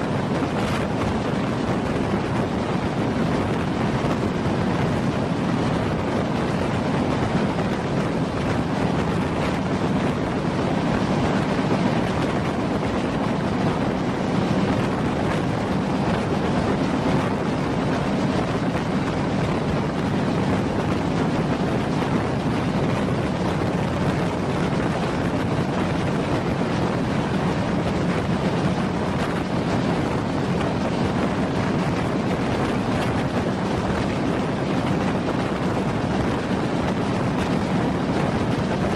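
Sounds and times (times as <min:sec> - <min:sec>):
train rumbling on rails: 0:00.0 - 0:38.9
wind buffeting microphone: 0:00.0 - 0:38.9.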